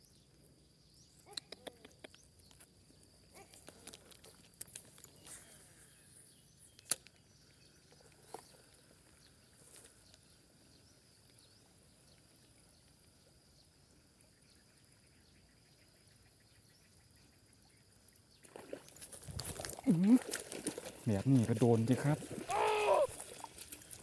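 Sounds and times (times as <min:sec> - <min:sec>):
faint high insect drone: 0:00.0 - 0:24.0.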